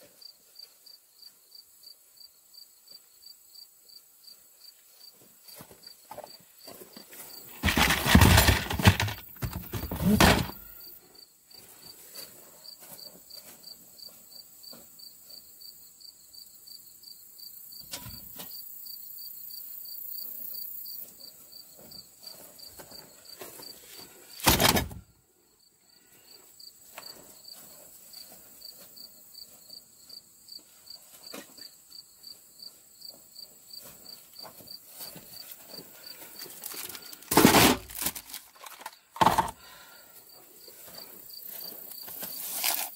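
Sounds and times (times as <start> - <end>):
insects chirping: 0.2 - 42.9.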